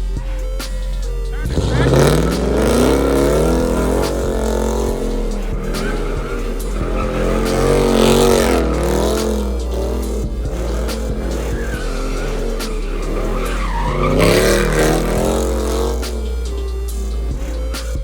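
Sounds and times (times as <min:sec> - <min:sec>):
car engine at high revs: 0:00.0 - 0:18.0
tyres squealing and skidding: 0:00.0 - 0:18.0.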